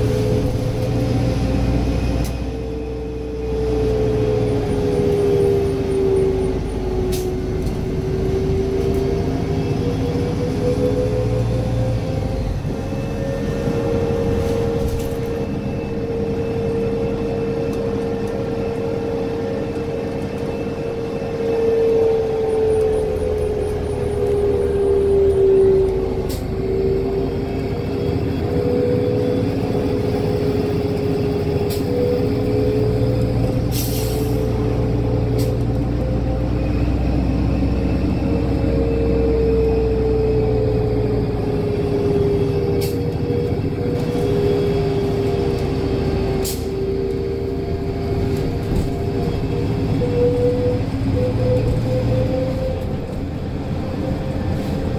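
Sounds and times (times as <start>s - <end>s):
bus engine and road rumble: 0.0s - 54.9s
whine: 0.0s - 54.9s.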